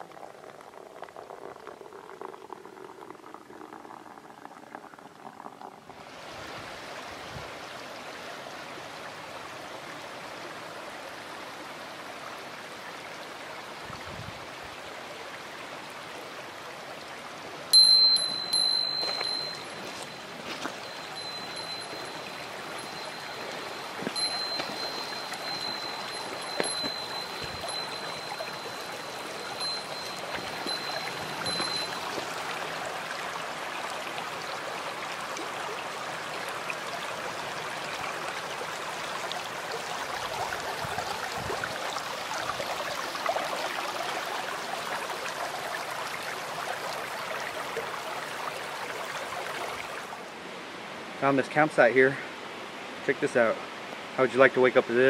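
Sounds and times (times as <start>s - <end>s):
creek water trickling over rocks: 0.0s - 50.4s.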